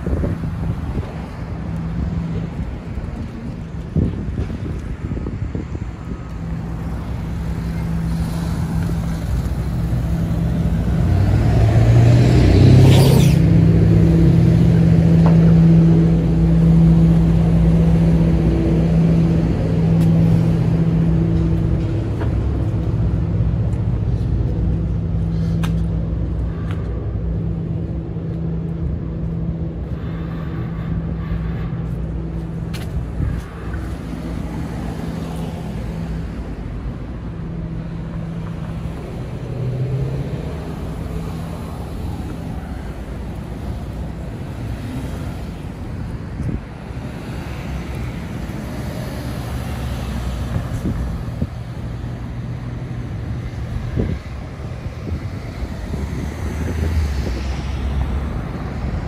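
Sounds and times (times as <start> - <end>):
vehicle engines humming: 0.0 - 59.0.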